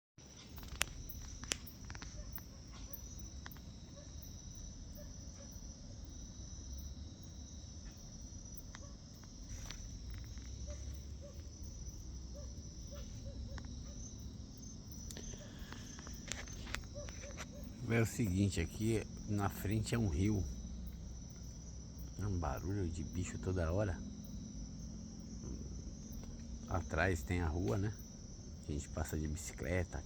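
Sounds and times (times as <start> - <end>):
crickets chirping: 0.2 - 30.0.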